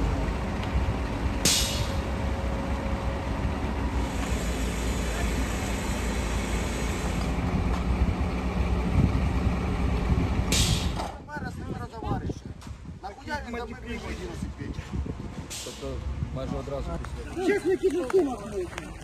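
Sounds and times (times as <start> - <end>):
heavy engines rumbling: 0.0 - 19.0.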